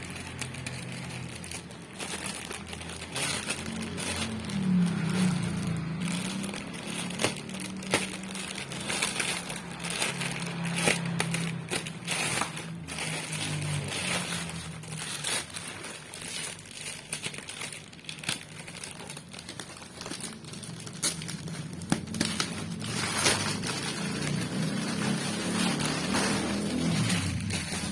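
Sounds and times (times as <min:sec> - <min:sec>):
packaging crinkling and rustling: 0:00.0 - 0:27.9.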